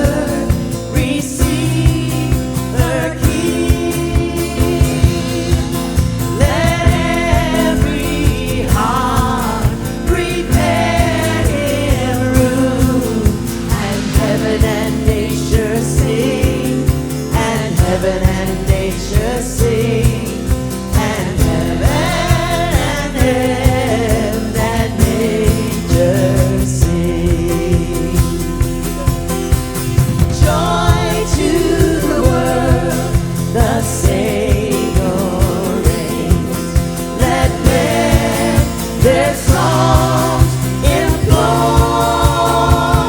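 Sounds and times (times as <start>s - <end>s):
steady drum beat: 0.0s - 43.0s
voices singing: 0.0s - 43.0s
worship band playing a carol: 0.0s - 43.0s.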